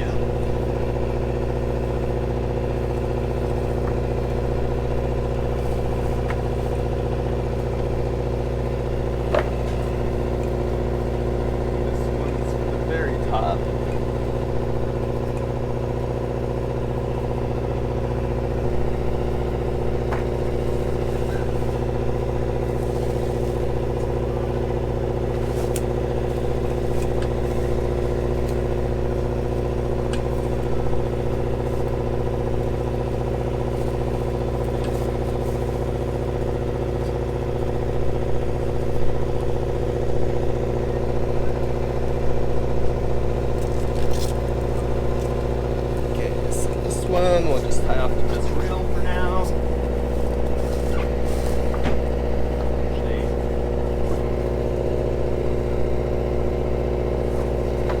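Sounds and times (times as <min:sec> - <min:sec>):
boat engine humming: 0:00.0 - 0:58.0.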